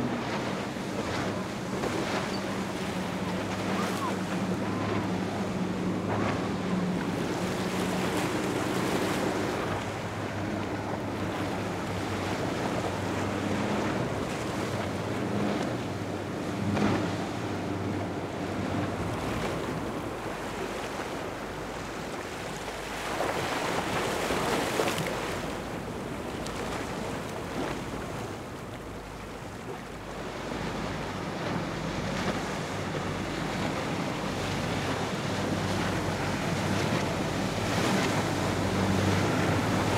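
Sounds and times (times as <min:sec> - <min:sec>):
boat engines droning: 0:00.0 - 0:39.9
waves washing: 0:00.0 - 0:39.9.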